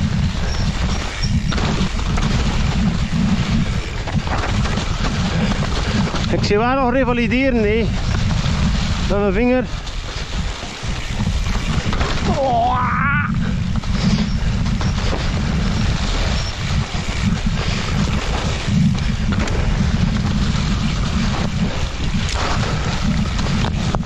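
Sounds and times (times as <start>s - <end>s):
tyres rolling over wet leaves: 0.0s - 24.0s
wind rumble on microphone: 0.0s - 24.0s.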